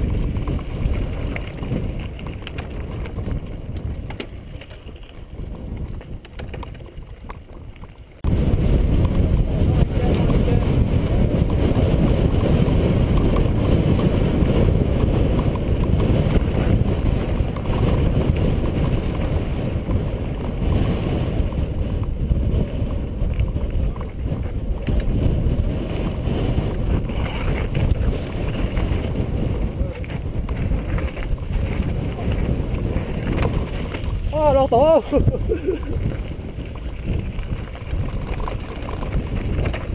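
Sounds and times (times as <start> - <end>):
bike rattling on rocky trail: 0.0 - 39.9
wind buffeting microphone: 0.0 - 39.9.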